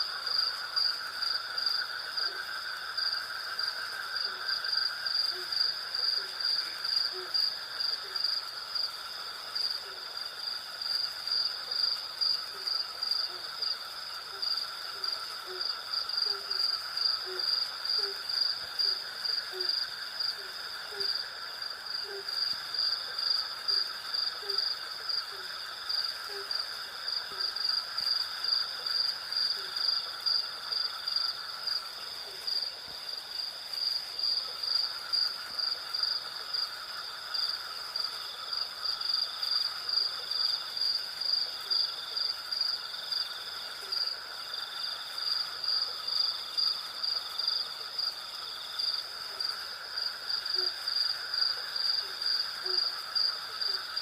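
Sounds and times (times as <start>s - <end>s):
crickets chirping: 0.0s - 54.0s
low insect drone: 0.0s - 54.0s.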